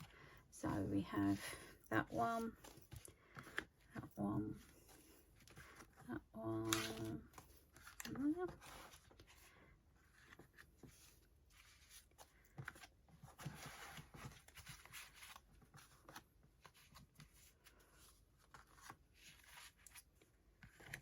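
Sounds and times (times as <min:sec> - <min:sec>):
paper cards rustling and tapping: 0:02.0 - 0:21.0.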